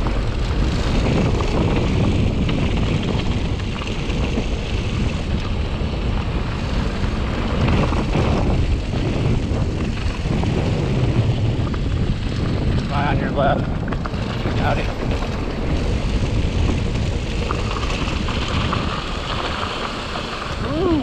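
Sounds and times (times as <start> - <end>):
bike tyres rumbling on gravel: 0.0 - 21.0
wind buffeting microphone: 0.0 - 21.0.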